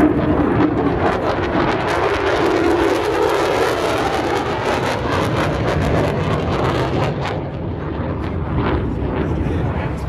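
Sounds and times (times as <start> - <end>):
military jet roaring: 0.0 - 10.0.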